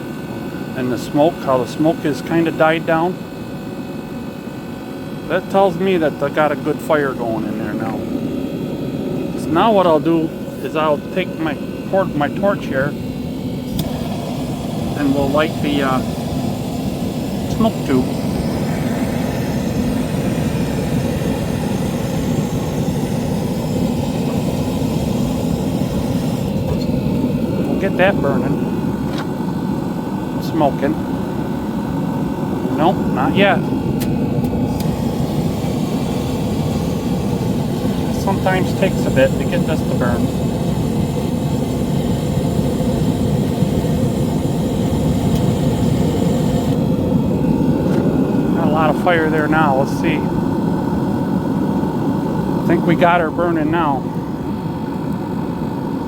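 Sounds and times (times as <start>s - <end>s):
torch flame roaring: 0.0s - 56.0s.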